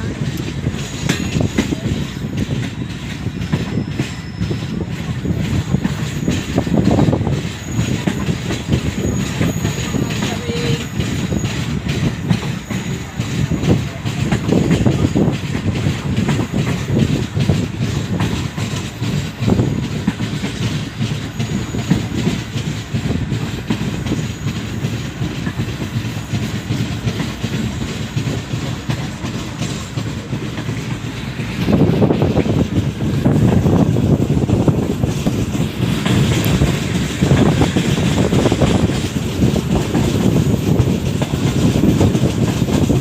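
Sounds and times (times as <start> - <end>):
train rumbling on track: 0.0 - 43.0
train wheels clicking: 0.0 - 43.0.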